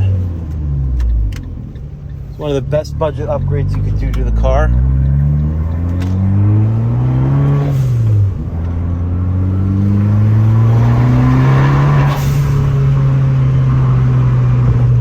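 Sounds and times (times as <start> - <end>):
car engine revving through gears: 0.0 - 15.0.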